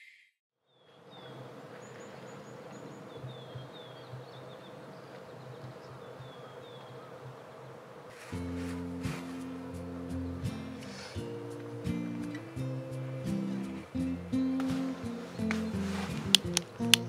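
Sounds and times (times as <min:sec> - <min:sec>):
bird chirping: 0:00.0 - 0:07.8, 0:09.4 - 0:17.0
open-air background hiss: 0:00.6 - 0:17.0.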